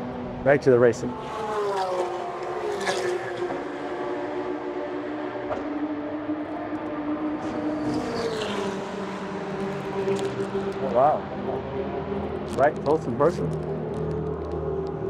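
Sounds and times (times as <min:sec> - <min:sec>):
racing car engine: 0:00.0 - 0:15.0.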